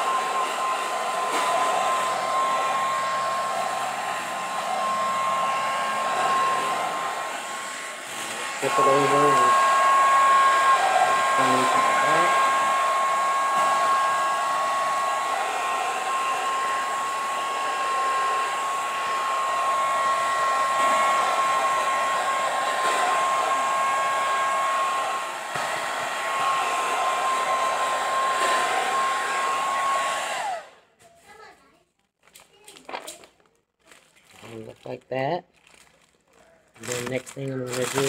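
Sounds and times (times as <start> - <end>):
blow dryer whining: 0.0 - 30.8, 36.8 - 38.0.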